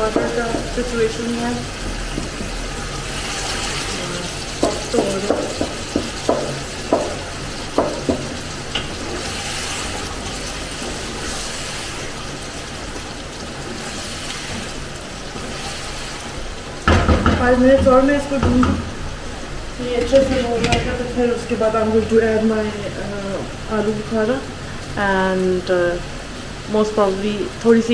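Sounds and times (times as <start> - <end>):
food sizzling in a pot: 0.0 - 27.9.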